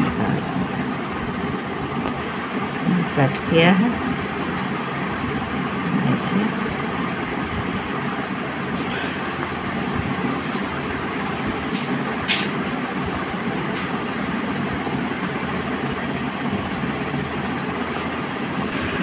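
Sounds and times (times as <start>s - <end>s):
steady rumbling background noise: 0.0s - 19.0s.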